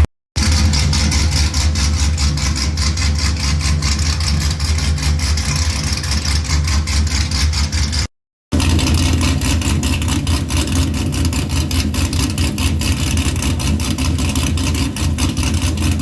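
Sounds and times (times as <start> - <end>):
loud car engine idling: 0.0 - 16.0.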